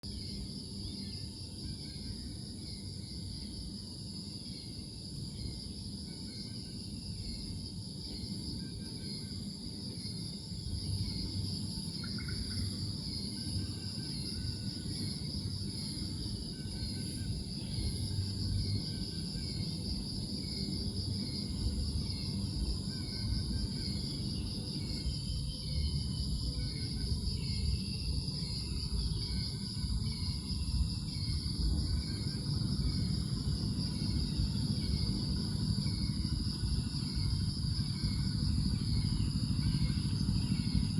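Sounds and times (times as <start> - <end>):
insects trilling: 0.0 - 40.9
low rumble of outdoor noise: 0.0 - 40.9.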